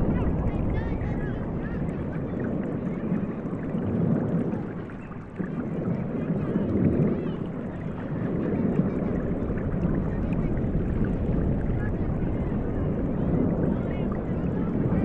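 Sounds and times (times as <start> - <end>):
ocean surf rushing: 0.0 - 15.0.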